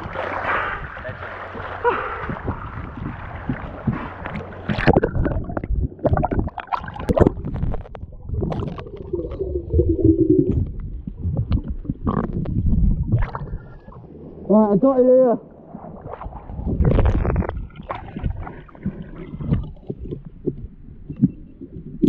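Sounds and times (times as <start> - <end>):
low rumble: 0.0 - 22.0
muffled water sloshing underwater: 0.0 - 22.0.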